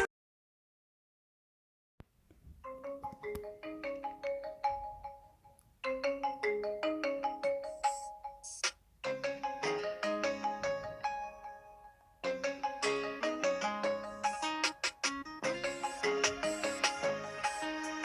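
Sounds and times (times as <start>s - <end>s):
marimba-like phone ringtone: 2.7s - 18.0s.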